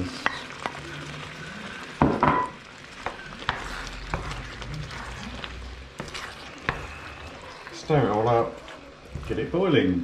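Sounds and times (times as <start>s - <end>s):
low sizzle: 0.0s - 10.0s
wooden spoon scraping frying pan: 0.0s - 10.0s.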